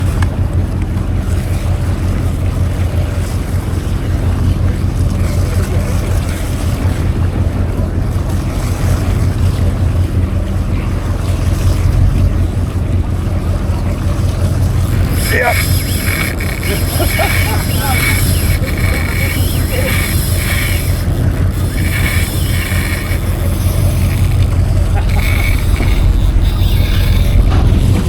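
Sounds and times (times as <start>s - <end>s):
boat engine humming: 0.0s - 28.0s
wind buffeting microphone: 0.0s - 28.0s.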